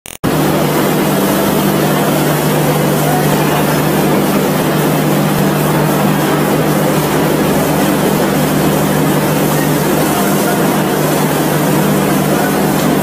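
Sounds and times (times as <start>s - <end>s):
loud rushing noise: 0.1s - 13.0s
train engine hum: 0.3s - 13.0s.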